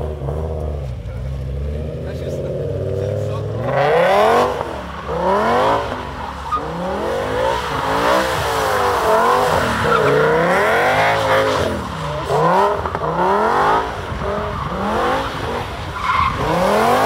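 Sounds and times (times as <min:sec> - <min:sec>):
car engine revving hard: 0:01.7 - 0:17.0.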